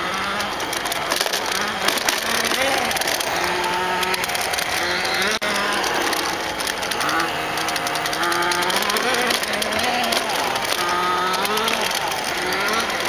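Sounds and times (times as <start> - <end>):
small motors whining and rattling: 0.0 - 13.0.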